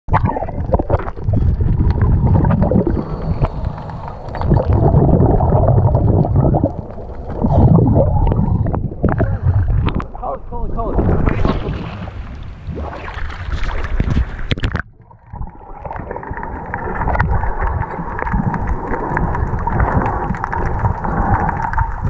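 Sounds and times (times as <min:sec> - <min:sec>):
underwater water churning: 0:00.1 - 0:10.2, 0:10.9 - 0:22.0.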